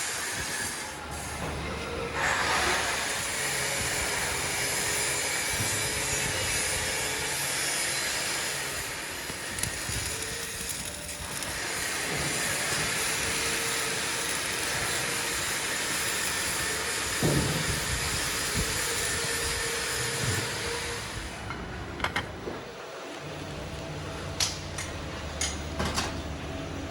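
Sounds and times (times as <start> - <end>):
factory machinery noise: 0.0 - 26.9.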